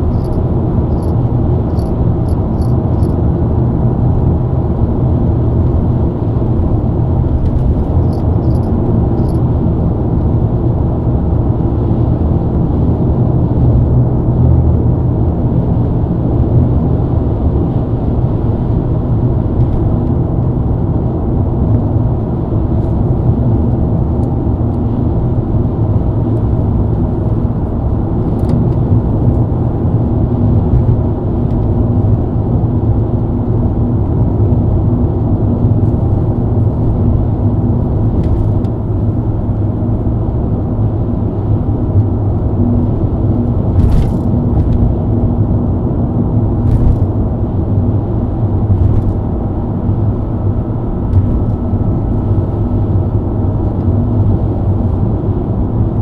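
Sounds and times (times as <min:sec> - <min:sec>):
car engine cruising: 0:00.0 - 0:56.0.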